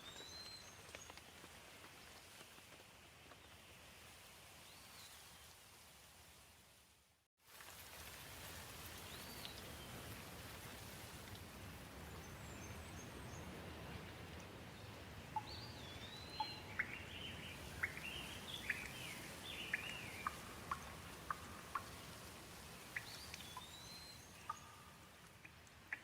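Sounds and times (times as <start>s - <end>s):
gentle rain hiss: 0.0s - 26.0s.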